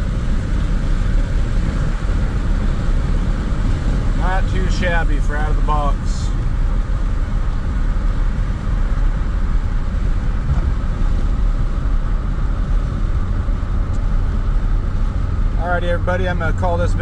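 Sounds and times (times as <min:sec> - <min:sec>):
road noise: 0:00.0 - 0:17.0
truck engine running: 0:00.0 - 0:17.0.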